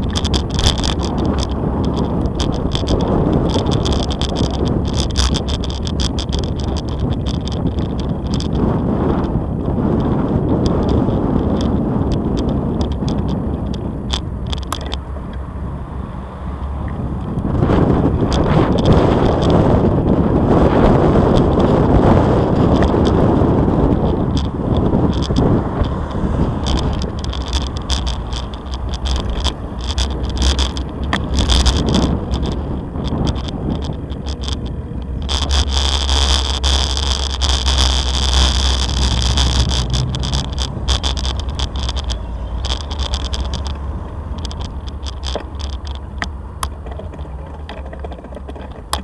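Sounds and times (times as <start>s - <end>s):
bicycle rattling clicks: 0.0s - 15.5s, 16.8s - 20.2s, 20.8s - 49.0s
bicycle tyres rumbling on paving: 0.0s - 49.0s.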